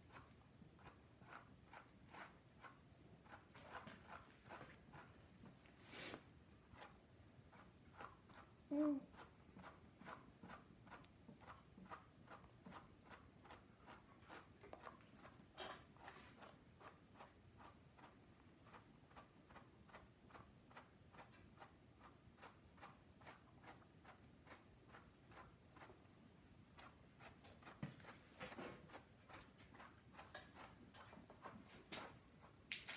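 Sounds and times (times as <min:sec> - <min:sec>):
brush scratching through dog fur: 0:00.0 - 0:32.8.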